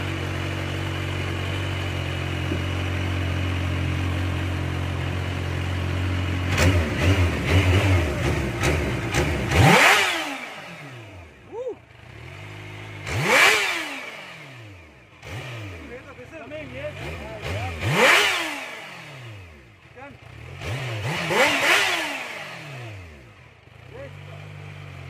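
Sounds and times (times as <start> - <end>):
motorcycle engine idling and revving: 0.0 - 25.0.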